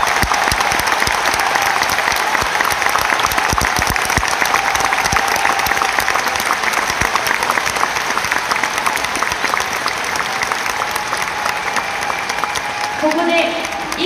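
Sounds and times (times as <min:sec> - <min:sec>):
rhythmic clapping beat: 0:00.0 - 0:14.0
stadium crowd applauding: 0:00.0 - 0:14.0.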